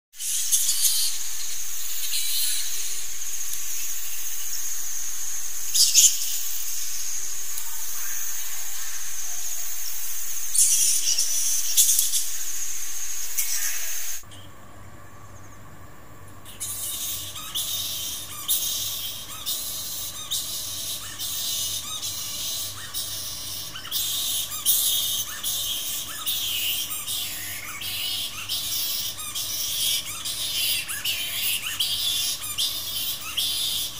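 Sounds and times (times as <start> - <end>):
bats calling: 0.2 - 14.5, 16.4 - 33.9.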